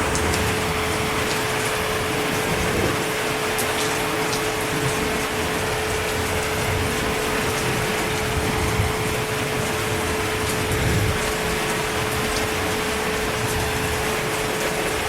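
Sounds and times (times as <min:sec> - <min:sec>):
heavy rain hiss: 0:00.0 - 0:15.0.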